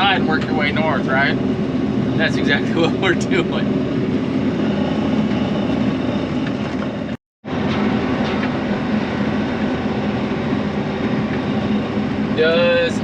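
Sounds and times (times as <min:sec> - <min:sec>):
swather engine and machinery drone: 0:00.0 - 0:13.0.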